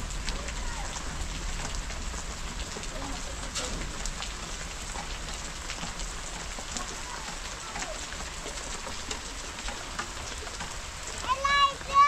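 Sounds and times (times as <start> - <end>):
raindrops striking close by: 0.0 - 12.0
steady rain falling: 0.0 - 12.0.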